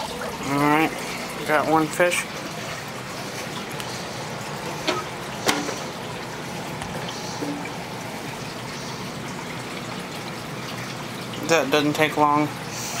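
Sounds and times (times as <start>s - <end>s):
aquarium filter water trickling: 0.0s - 13.0s.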